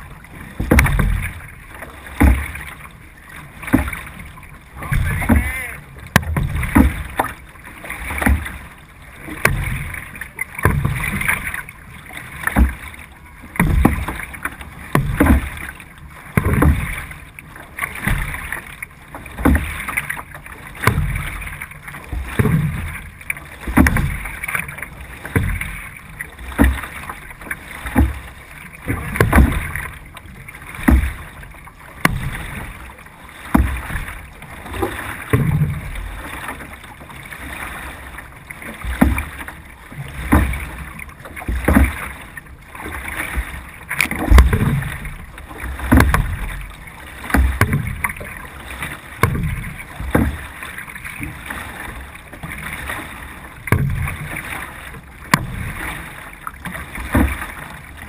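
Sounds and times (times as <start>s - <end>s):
paddle strokes splashing: 0.0s - 58.0s
water rushing along hull: 0.0s - 58.0s.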